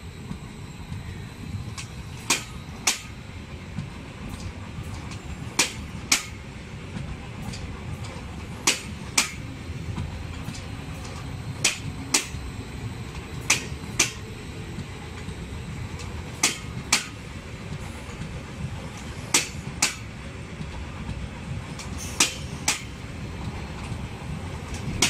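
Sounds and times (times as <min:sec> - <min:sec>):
low train rumble: 0:00.0 - 0:25.0
train wheels clacking over rail joint: 0:01.7 - 0:12.5, 0:13.1 - 0:15.4, 0:16.0 - 0:25.0.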